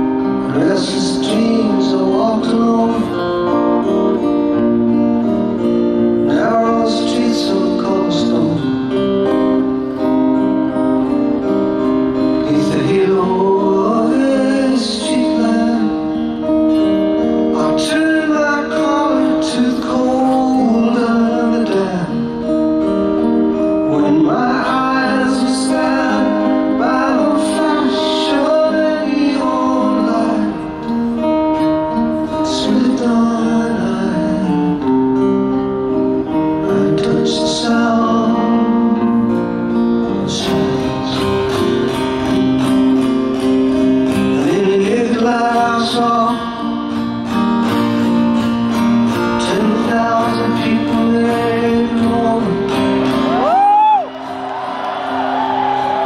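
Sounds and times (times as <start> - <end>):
man singing: 0.0 - 4.3, 6.0 - 9.6, 12.1 - 42.8, 43.7 - 47.5, 49.0 - 53.6
acoustic guitar: 0.0 - 56.0.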